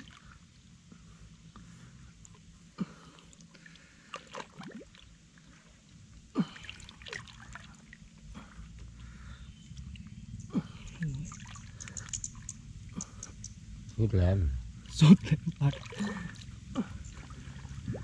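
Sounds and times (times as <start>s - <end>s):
water trickling and sloshing: 0.0s - 1.1s, 2.2s - 18.0s.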